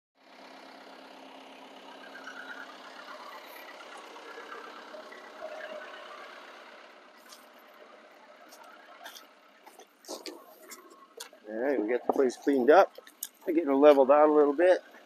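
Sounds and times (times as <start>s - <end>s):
tractor diesel engine idling: 0.2s - 15.0s.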